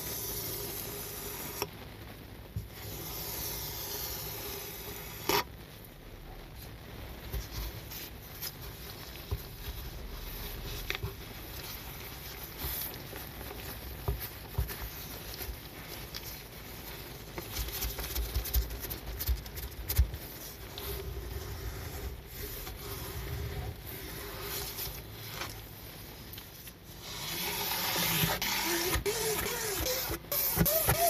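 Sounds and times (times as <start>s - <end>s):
wet foam patter and crackle: 0.4s - 27.0s.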